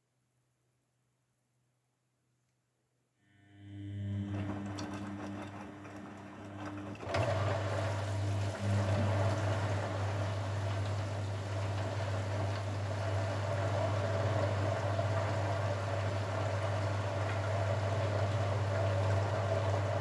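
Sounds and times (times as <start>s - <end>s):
washing machine motor hum: 3.2s - 20.0s.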